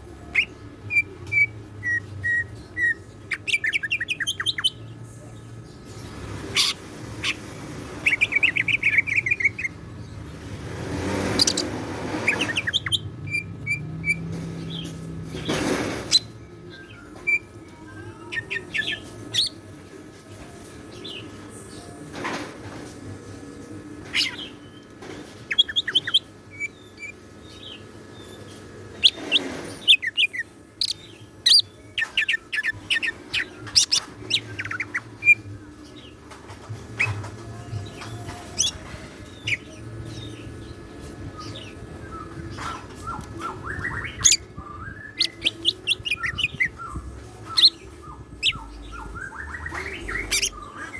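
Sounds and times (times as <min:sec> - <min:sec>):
bird chirping and trilling: 0:00.1 - 0:05.0, 0:06.5 - 0:15.0, 0:16.0 - 0:19.7, 0:24.0 - 0:50.9.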